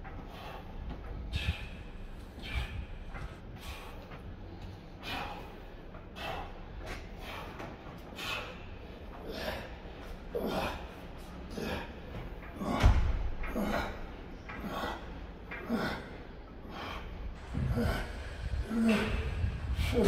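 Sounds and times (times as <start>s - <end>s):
man breathing hard: 0.0s - 20.0s.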